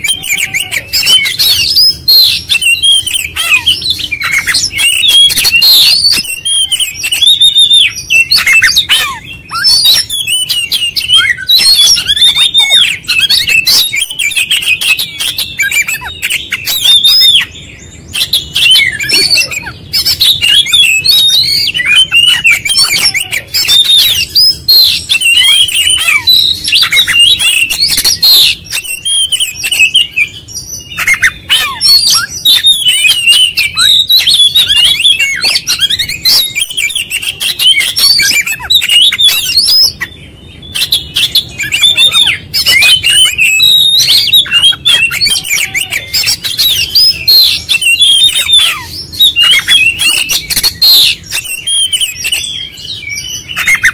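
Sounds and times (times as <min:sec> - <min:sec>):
bird singing varied whistles: 0:00.0 - 0:53.9.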